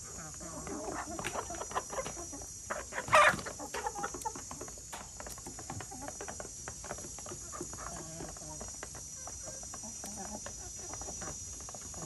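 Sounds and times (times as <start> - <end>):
hens and roosters clucking: 0.0 - 12.0.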